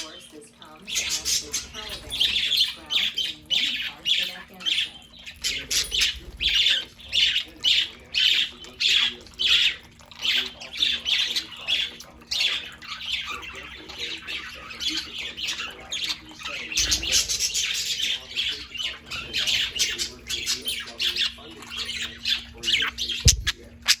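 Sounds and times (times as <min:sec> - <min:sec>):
budgerigars chattering and squawking: 0:00.0 - 0:24.0.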